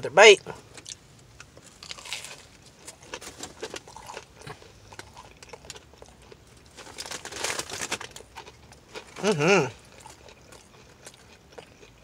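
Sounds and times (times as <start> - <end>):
person chewing crispy food: 0.7 - 12.0.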